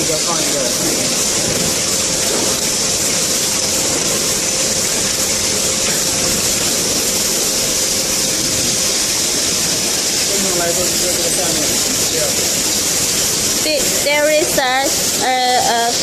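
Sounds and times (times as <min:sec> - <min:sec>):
machine motor running with hiss: 0:00.0 - 0:16.0.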